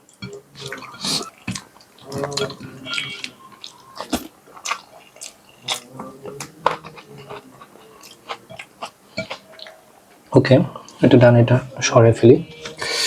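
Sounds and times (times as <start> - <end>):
person chewing wetly: 0.0 - 11.3.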